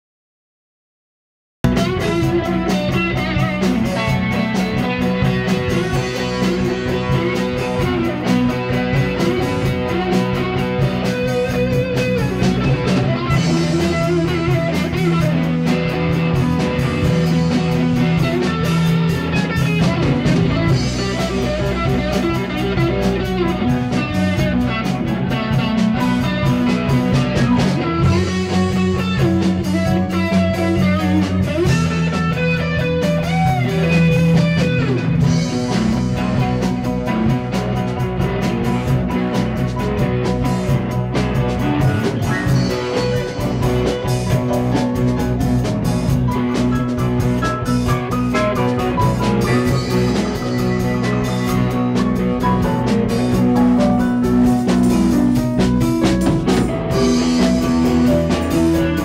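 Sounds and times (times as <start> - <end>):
bass guitar: 1.6 - 59.0
drums: 1.6 - 59.0
electric guitar: 1.6 - 59.0.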